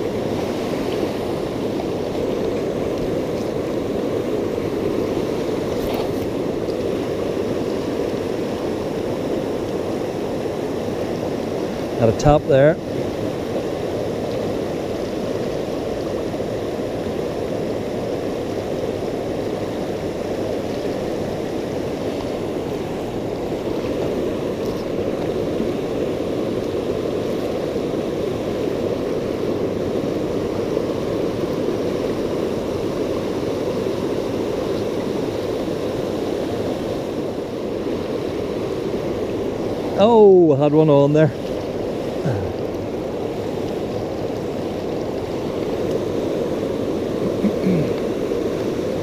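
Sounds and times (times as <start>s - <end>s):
river water rushing over weir: 0.0s - 49.0s.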